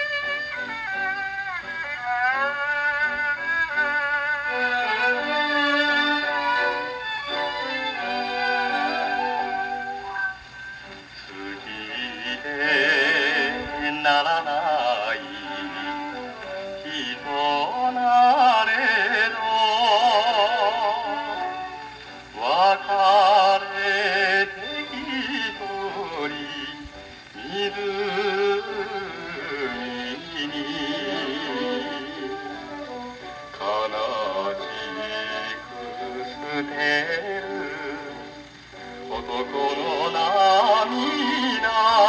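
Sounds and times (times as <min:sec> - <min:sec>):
pop song on gramophone: 0:00.0 - 0:42.0.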